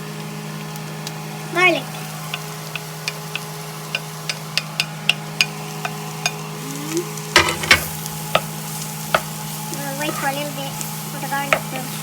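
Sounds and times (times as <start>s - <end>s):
vegetables sizzling in a pot: 0.0s - 12.0s.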